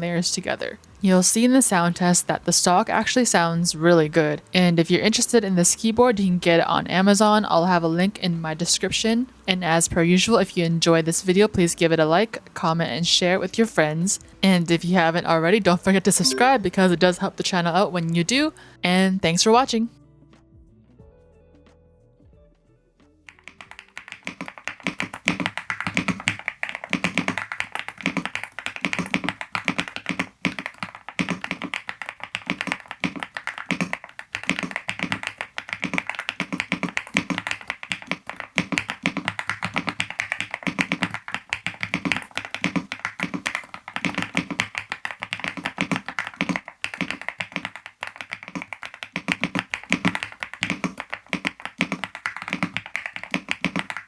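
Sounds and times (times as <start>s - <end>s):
mechanical keyboard typing: 0.0s - 13.9s, 14.7s - 18.5s, 23.3s - 54.0s.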